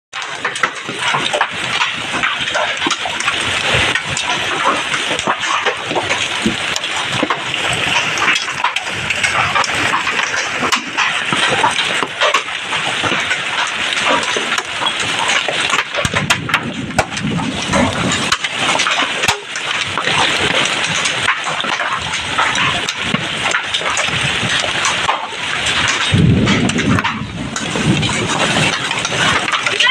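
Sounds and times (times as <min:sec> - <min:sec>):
heavy rain pouring: 0:00.1 - 0:29.9.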